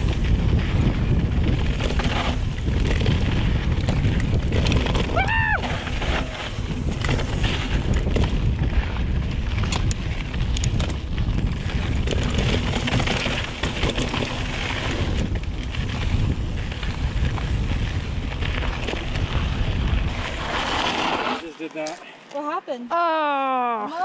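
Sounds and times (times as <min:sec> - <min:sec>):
bike rattling over bumps: 0:00.0 - 0:21.5
wind buffeting microphone: 0:00.0 - 0:21.5
tyres rolling on dirt trail: 0:00.0 - 0:22.6.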